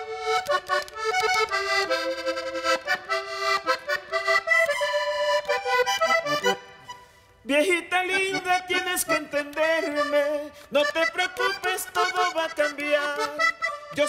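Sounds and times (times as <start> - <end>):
button accordion melody: 0.0 - 14.0.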